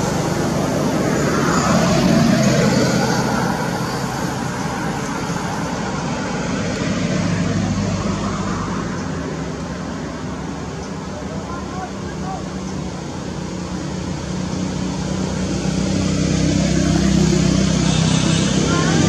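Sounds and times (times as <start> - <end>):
low engine hum: 0.0 - 19.0
road traffic noise: 0.0 - 19.0.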